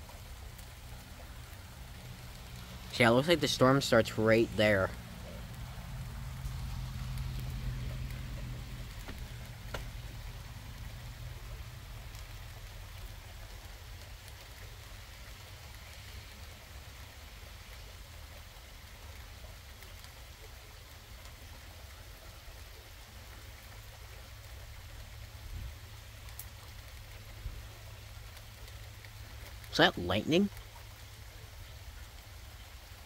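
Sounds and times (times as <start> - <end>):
light rain hiss: 0.0 - 33.0.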